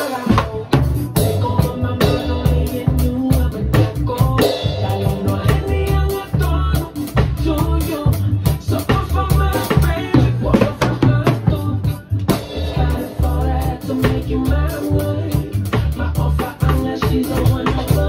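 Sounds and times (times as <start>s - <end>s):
drum kit playing: 0.0s - 18.0s
recorded song with singing: 0.0s - 18.0s.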